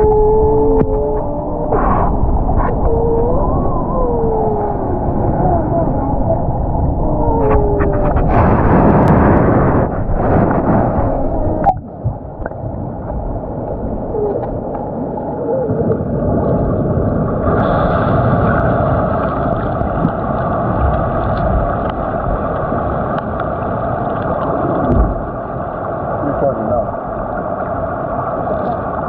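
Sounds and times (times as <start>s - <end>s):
muffled underwater rumble and hiss: 0.0s - 29.0s.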